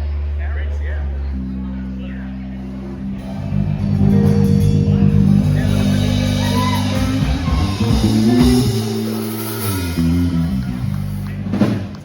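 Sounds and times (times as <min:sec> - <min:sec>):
live rock band playing: 0:02.3 - 0:12.0.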